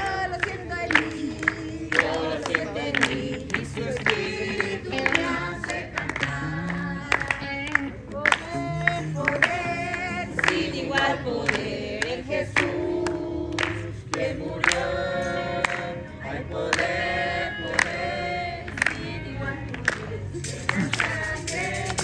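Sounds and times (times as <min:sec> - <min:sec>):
hand claps: 0:00.0 - 0:15.9, 0:17.7 - 0:19.1, 0:19.7 - 0:22.0
group singing a worship song: 0:00.0 - 0:22.0.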